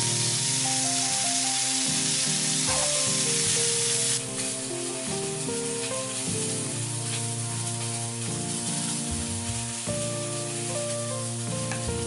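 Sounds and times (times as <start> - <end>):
background music: 0.0 - 12.0
fish sizzling in a pan: 0.0 - 12.0.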